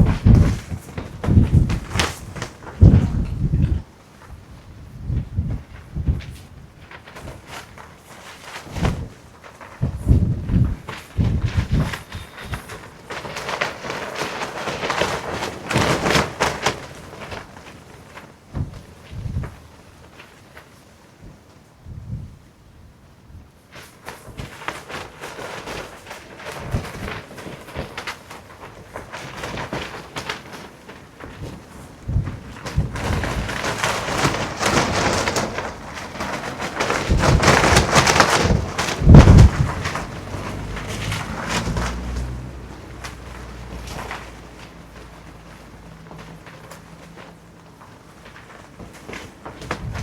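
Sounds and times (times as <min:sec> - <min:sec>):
wind gusting against microphone: 0:00.0 - 0:20.2, 0:21.0 - 0:46.5, 0:49.0 - 0:50.0
rustling and flapping: 0:00.0 - 0:50.0.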